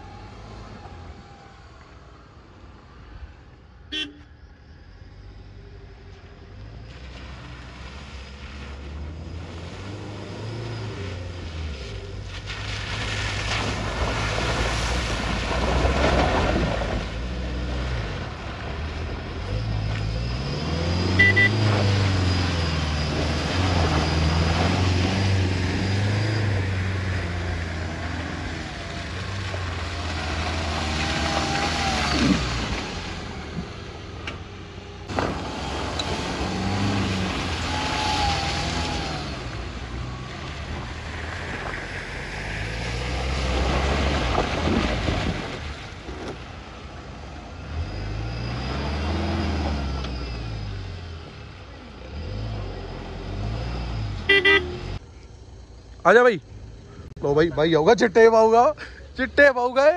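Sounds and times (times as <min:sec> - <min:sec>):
suv engines revving: 0:00.0 - 0:04.2, 0:04.8 - 0:59.9
tyres churning through mud: 0:06.6 - 0:55.2.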